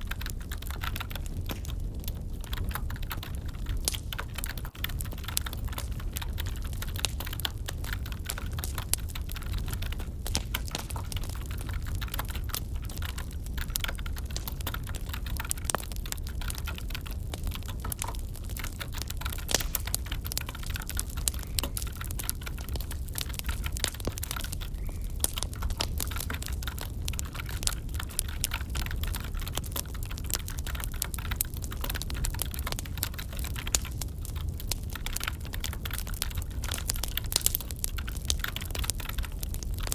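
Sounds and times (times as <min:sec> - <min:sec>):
crackling wood fire: 0:00.0 - 0:39.9.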